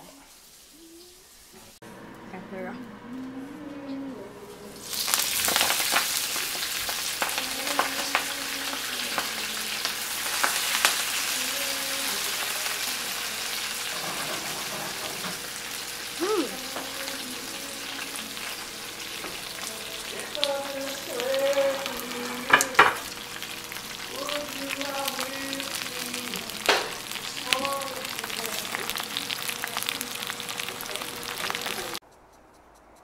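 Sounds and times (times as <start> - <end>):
food sizzling in frying pan: 0.0 - 1.8, 4.7 - 32.0.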